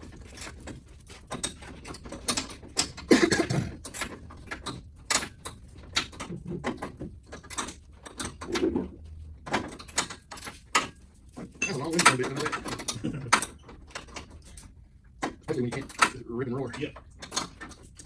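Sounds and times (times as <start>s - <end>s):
hand tools clinking and clicking: 0.0s - 18.0s.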